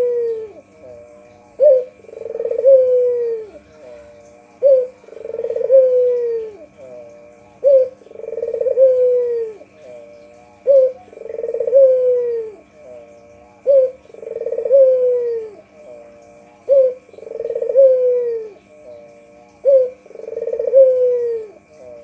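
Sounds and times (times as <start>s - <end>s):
dove cooing: 0.0s - 22.0s
faint steady hum: 0.0s - 22.0s.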